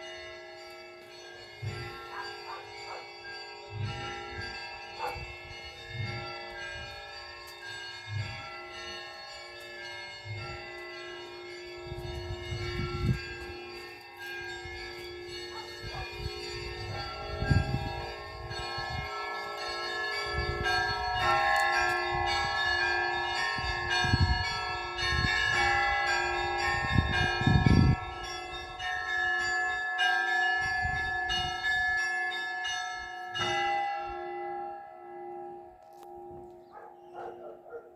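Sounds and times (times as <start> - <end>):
church bells pealing: 0.0 - 37.9.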